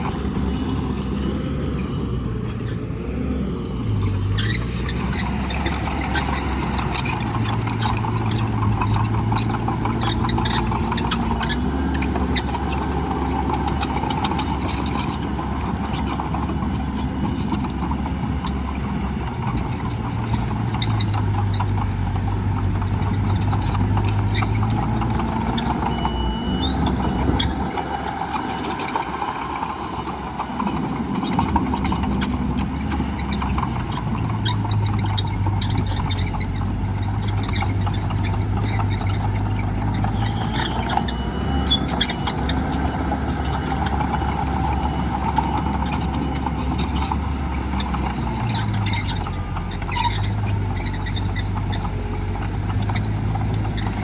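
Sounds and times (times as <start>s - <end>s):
heavy diesel machinery engines: 0.0s - 54.0s.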